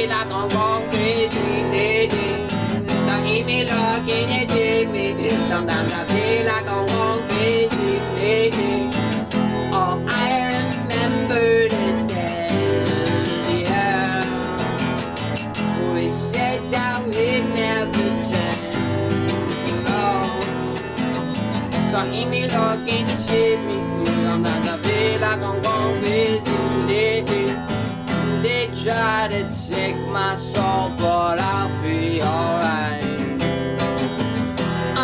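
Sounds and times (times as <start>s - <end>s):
man singing: 0.0s - 33.5s
acoustic guitar strumming: 0.0s - 35.0s.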